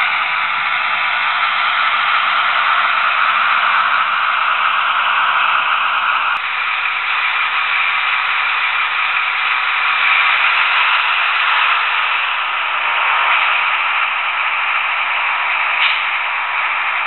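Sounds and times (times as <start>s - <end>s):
model diesel engine sound: 0.0s - 17.0s
model train wheel and track noise: 0.0s - 17.0s.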